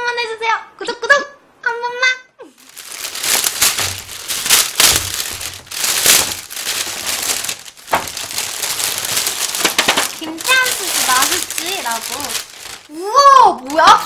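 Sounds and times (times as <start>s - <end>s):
plastic bag crinkling: 2.6s - 14.0s.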